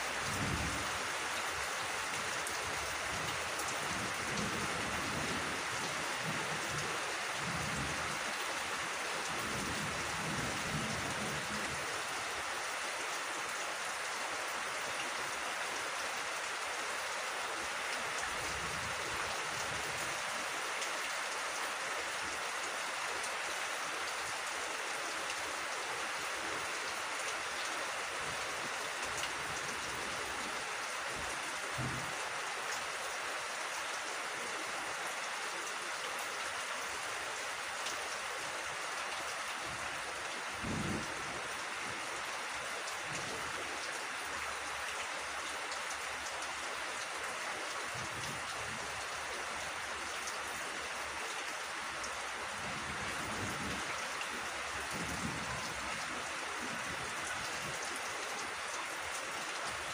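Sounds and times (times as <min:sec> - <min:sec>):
steady rain on foliage: 0:00.0 - 0:59.9.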